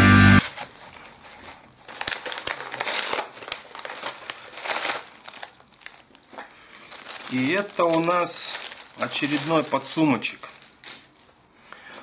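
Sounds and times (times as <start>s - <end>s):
plastic packaging crinkling: 0.4s - 12.0s.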